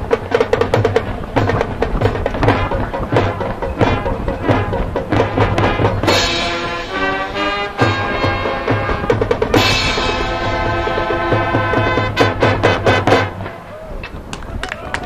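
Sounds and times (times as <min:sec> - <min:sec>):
drum hits: 0:00.0 - 0:13.7
sharp drum strokes: 0:00.0 - 0:13.8
marching band wind chords: 0:00.0 - 0:14.7.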